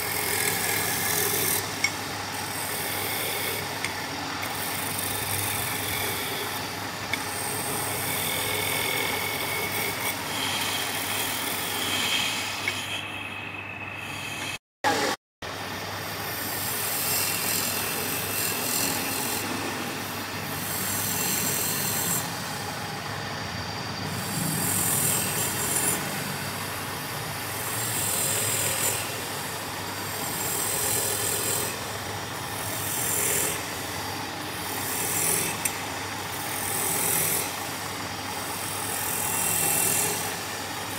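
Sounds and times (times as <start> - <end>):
wood lathe humming: 0.0 - 15.0, 15.6 - 23.4, 24.0 - 40.9.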